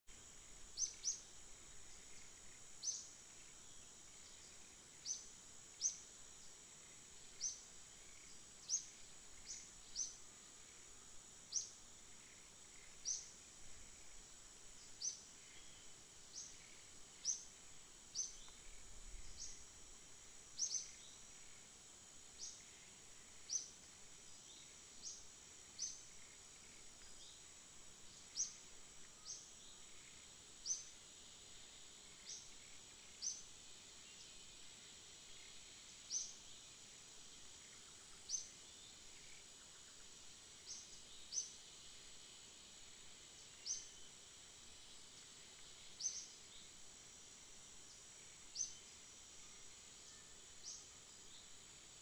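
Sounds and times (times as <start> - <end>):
high insect drone: 0.1 - 52.0.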